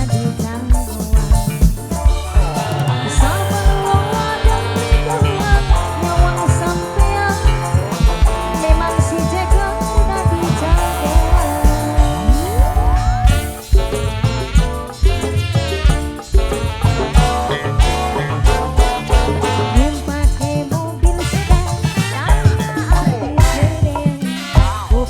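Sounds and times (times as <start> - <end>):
band music with heavy drum beat: 0.0 - 25.0.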